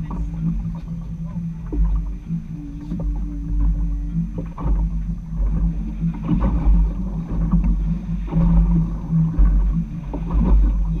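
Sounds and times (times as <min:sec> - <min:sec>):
motorboat engine humming: 0:00.0 - 0:11.0
wind rumble on microphone: 0:00.0 - 0:11.0.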